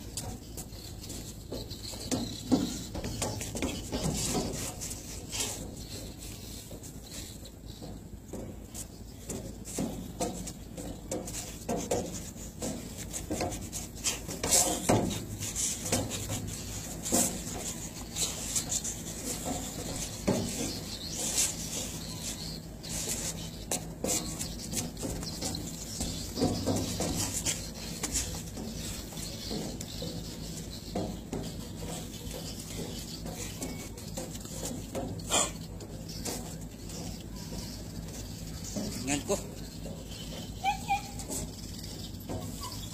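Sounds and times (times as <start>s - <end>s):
feet shuffling on deck: 0.0s - 42.9s
steady low hum: 0.0s - 42.9s.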